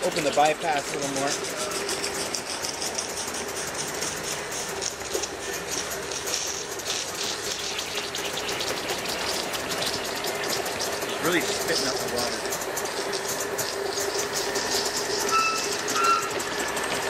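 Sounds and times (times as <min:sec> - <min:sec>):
steam hissing: 0:00.0 - 0:17.0
steam locomotive chuffing: 0:00.0 - 0:17.0
water spitting from stack: 0:00.0 - 0:17.0.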